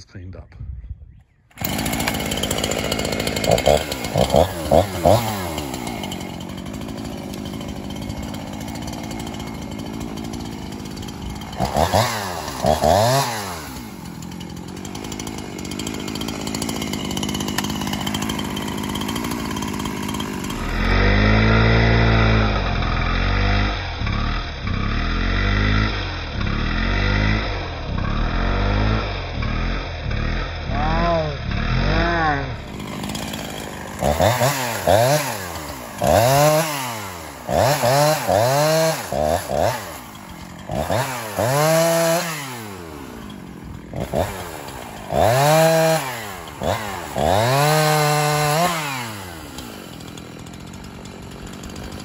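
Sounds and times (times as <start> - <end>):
chainsaw revving: 1.5 - 52.0.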